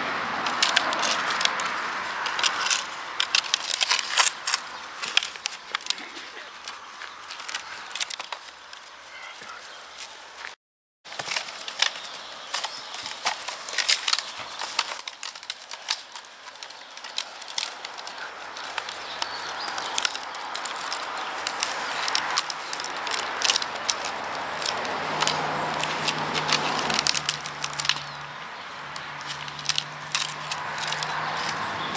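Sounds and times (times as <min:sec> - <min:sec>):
stick crackling and snapping: 0:00.1 - 0:09.0, 0:11.1 - 0:31.9.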